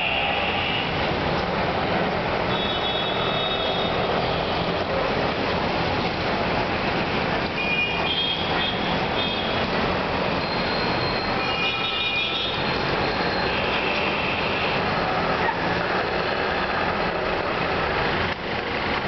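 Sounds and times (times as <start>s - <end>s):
road traffic roar: 0.0s - 19.0s.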